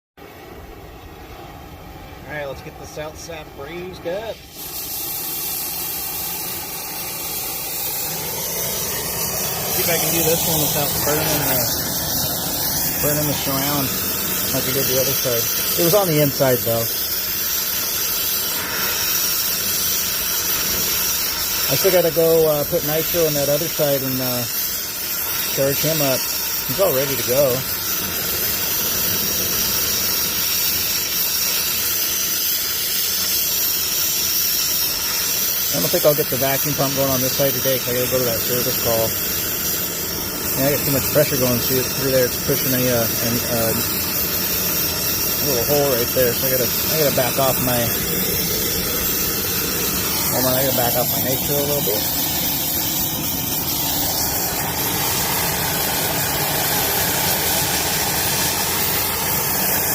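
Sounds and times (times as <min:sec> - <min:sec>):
torch flame hissing: 0:00.2 - 0:59.9.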